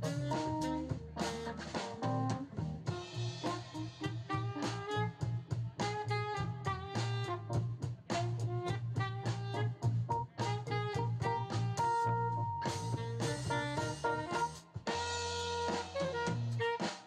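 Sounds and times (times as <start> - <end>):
instrumental music with steady beat: 0.0 - 17.0.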